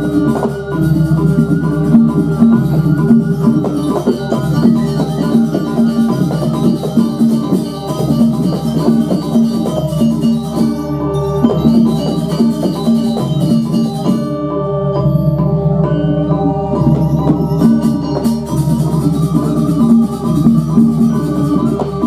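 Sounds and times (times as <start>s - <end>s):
drums: 0.0s - 22.0s
gamelan metal mallet instruments: 0.0s - 22.0s.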